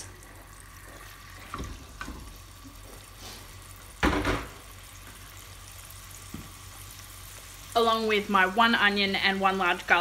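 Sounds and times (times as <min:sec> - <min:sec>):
chicken sizzling in butter: 0:00.0 - 0:10.0.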